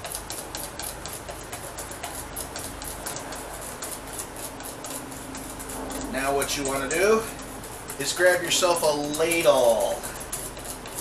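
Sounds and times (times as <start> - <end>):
whisk clicking in metal bowl: 0.0 - 11.0.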